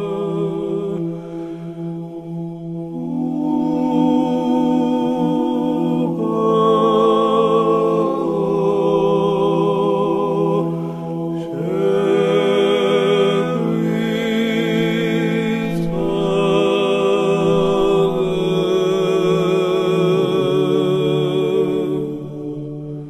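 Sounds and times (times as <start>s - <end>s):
low drone: 0.0s - 23.0s
person chanting with vibrato: 0.0s - 23.0s.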